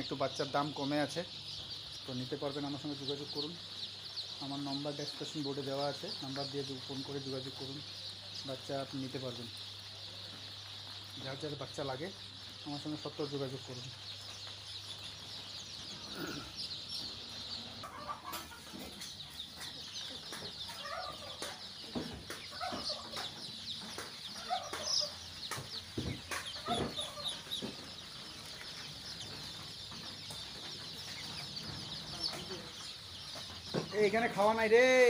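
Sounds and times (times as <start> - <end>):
chicks peeping: 0.0 - 35.0.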